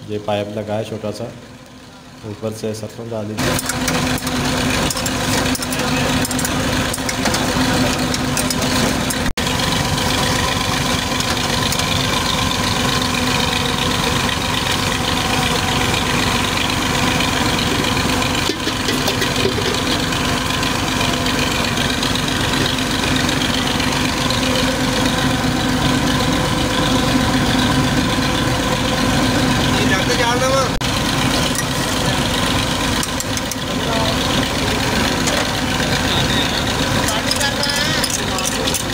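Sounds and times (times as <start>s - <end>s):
oil press machine droning: 3.4s - 38.9s.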